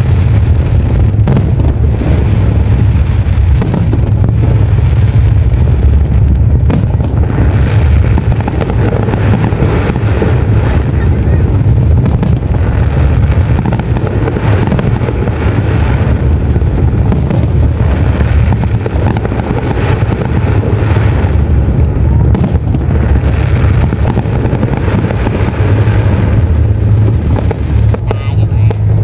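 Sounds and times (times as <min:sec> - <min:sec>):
low fireworks rumble: 0:00.0 - 0:29.0
firework shells bursting: 0:00.7 - 0:29.0.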